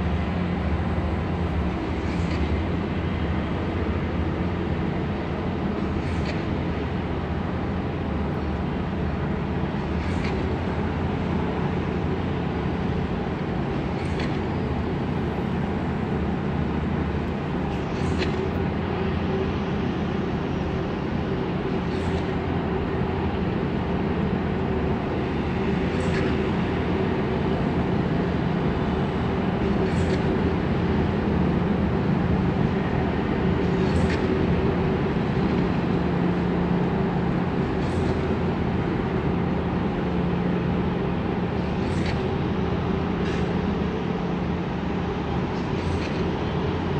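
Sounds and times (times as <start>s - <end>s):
constant low drone: 0.0s - 46.9s.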